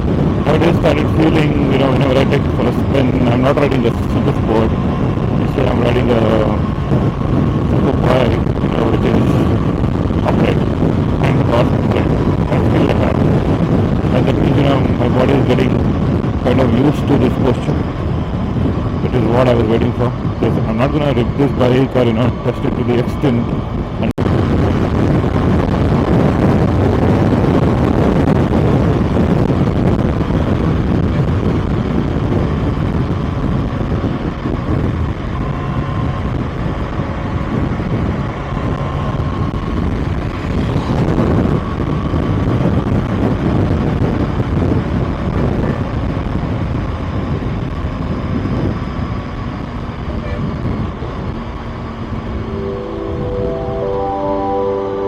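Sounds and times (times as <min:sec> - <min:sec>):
wind rush on microphone: 0:00.0 - 0:53.0.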